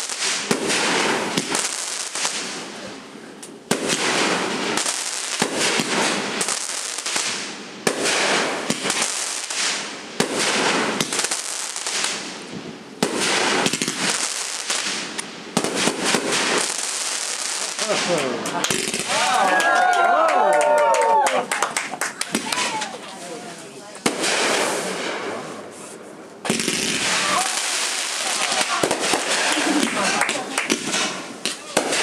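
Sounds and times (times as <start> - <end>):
fireworks crackle: 0.0 - 19.4, 21.8 - 32.0
fireworks bangs: 0.0 - 20.9, 21.7 - 23.2, 23.8 - 32.0.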